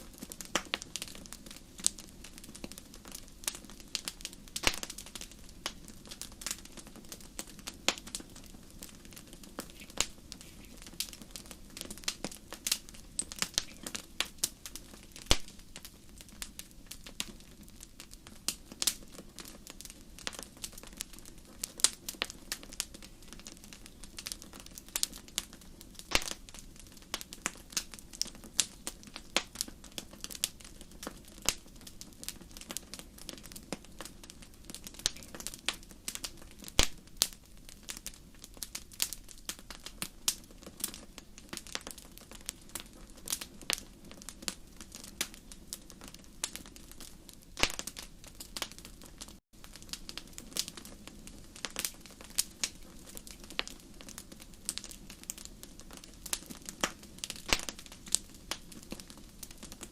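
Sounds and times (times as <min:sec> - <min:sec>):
low rumble of fire: 0:00.0 - 0:59.9
wood fire crackling and popping: 0:00.0 - 0:59.9.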